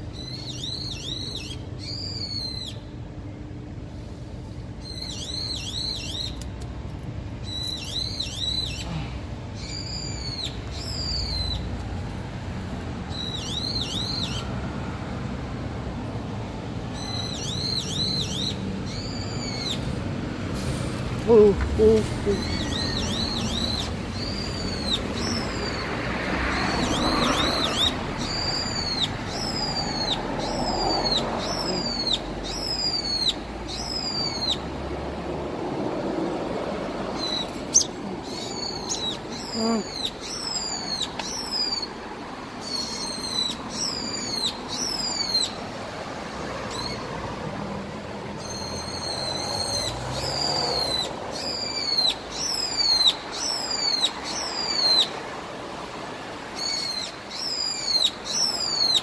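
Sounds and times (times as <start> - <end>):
street noise: 0.0 - 59.0.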